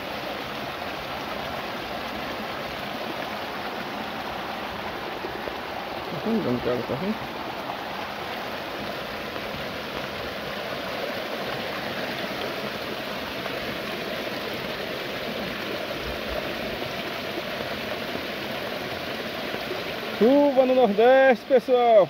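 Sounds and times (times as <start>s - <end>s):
water running down a gully: 0.0s - 22.0s.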